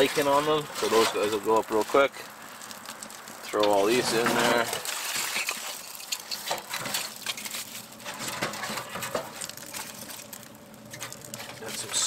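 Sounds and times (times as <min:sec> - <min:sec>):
fire crackling: 0:00.0 - 0:12.0
twigs clattering against metal: 0:00.0 - 0:12.0.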